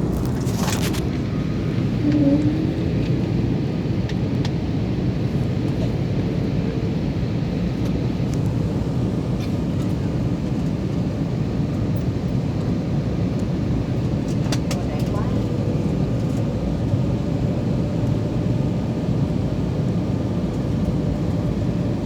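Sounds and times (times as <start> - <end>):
airliner engines and airflow: 0.0 - 22.0.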